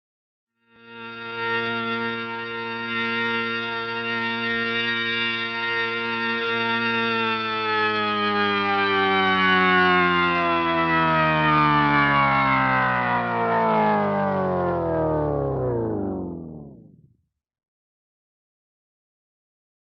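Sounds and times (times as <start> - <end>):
buzzy tone sliding down: 0.7 - 17.1.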